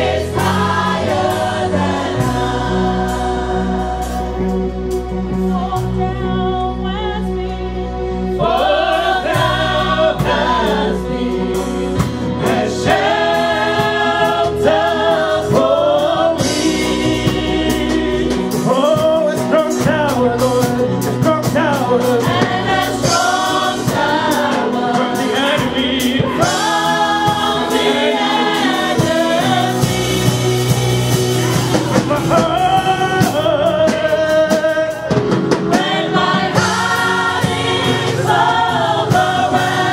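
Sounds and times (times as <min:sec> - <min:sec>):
man and women singing: 0:00.0 - 0:04.3, 0:08.2 - 0:39.9
band with low notes: 0:00.0 - 0:39.9
drums: 0:00.0 - 0:39.9.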